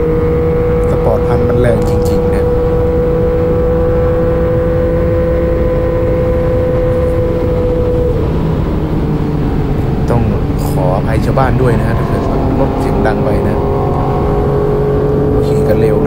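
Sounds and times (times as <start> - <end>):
motorcycle engine at high revs: 0.0 - 16.0
wind rush: 0.0 - 16.0.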